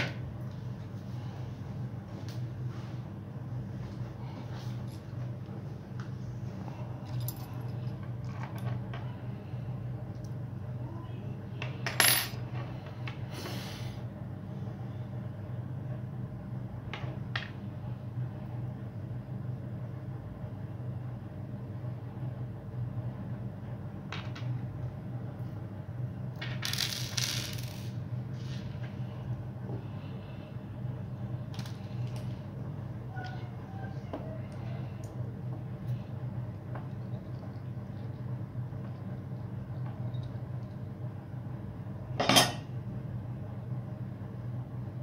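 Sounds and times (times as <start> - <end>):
low hum: 0.0 - 45.0.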